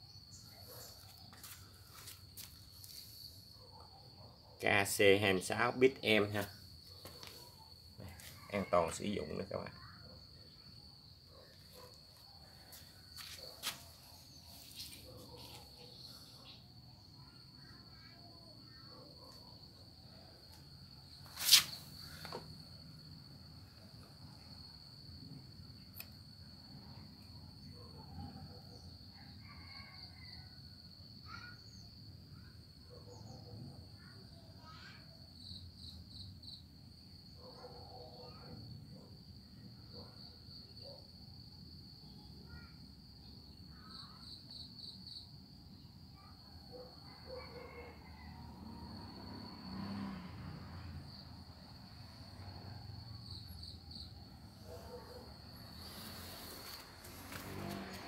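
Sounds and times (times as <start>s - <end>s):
cricket trilling: 0.0s - 58.0s.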